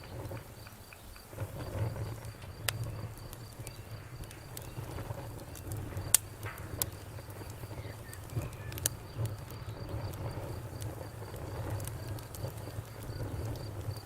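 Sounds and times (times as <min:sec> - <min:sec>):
campfire crackling: 0:00.0 - 0:14.0
pulsing insect chirp: 0:00.0 - 0:14.0.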